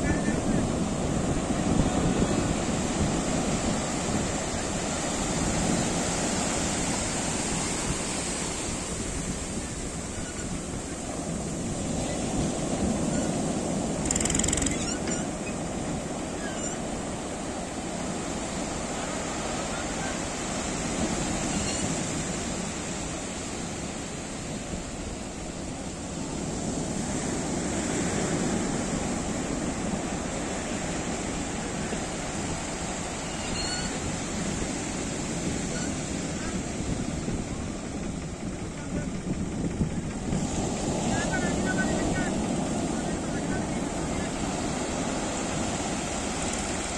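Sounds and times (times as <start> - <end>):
small waves breaking on sand: 0.0 - 46.9.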